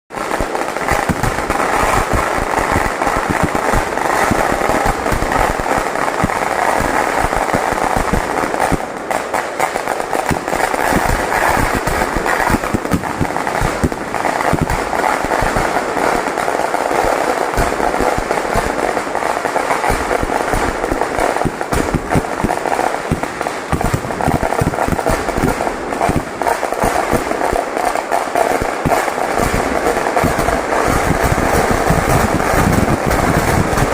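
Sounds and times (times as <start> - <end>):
firecrackers bursting rapidly: 0.1 - 33.9.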